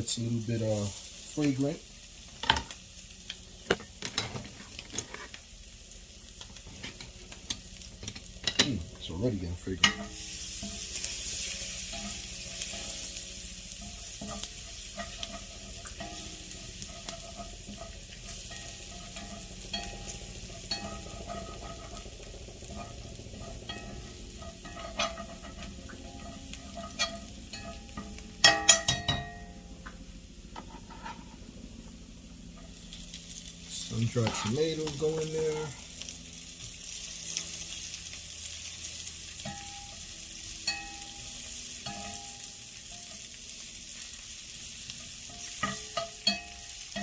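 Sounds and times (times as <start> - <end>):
garlic sizzling in oil: 0.0 - 28.8, 32.2 - 47.0.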